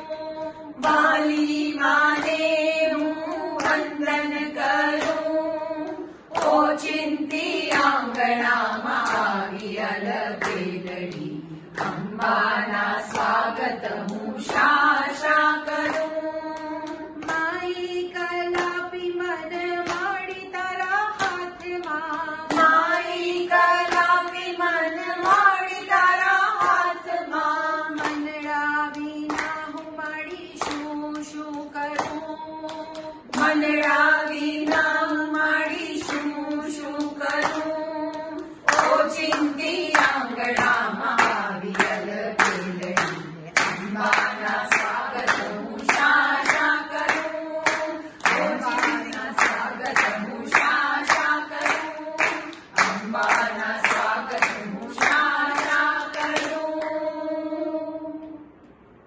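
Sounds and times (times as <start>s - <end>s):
women singing: 0.0s - 58.5s
hand claps: 0.0s - 58.8s.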